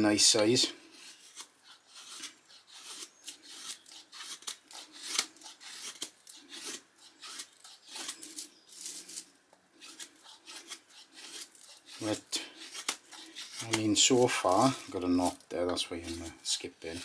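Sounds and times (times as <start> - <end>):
knife shaving wood: 0.8 - 17.0.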